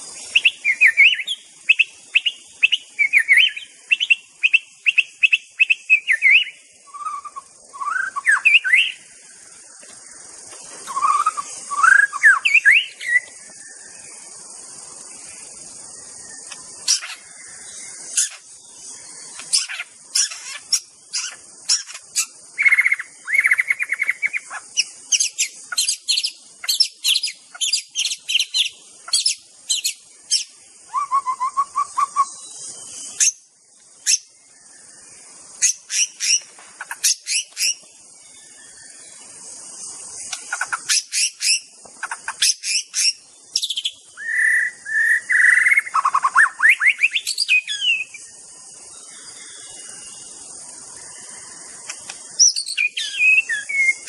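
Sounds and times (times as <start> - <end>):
bird singing: 0.0 - 54.0
steady high hiss: 0.0 - 54.0.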